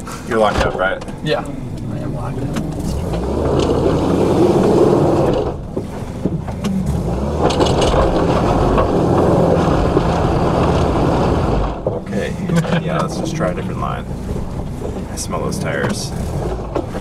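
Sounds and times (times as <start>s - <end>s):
tires spinning on a trail: 0.0s - 17.0s
car engine revving hard: 1.4s - 17.0s.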